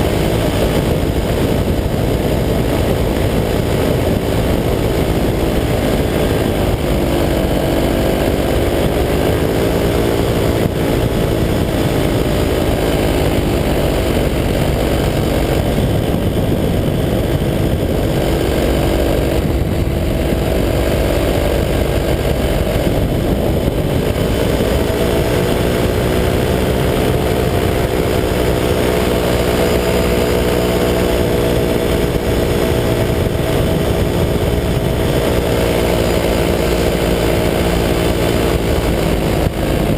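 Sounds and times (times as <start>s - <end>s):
paramotor engine and propeller: 0.0s - 39.9s
rush of air noise: 0.0s - 39.9s.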